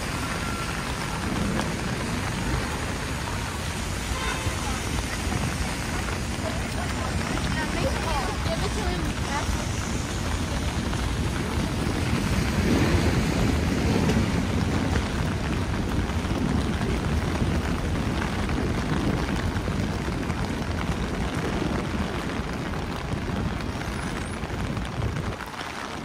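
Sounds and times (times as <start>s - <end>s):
heavy rain on an umbrella: 0.0s - 26.0s
traffic on wet streets: 0.0s - 26.0s.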